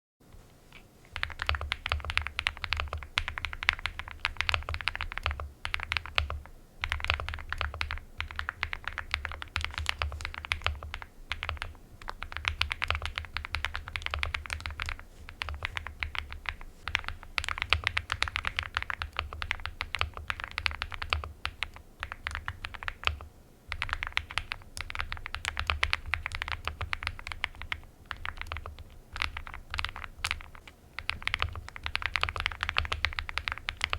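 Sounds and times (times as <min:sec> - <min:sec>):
mechanical keyboard typing: 0:01.1 - 0:33.9.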